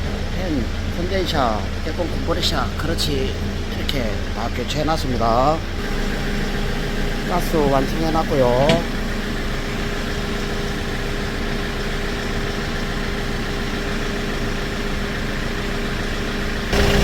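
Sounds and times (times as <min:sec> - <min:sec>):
constant hum: 0:00.0 - 0:17.0
diesel engine idling: 0:00.0 - 0:17.0.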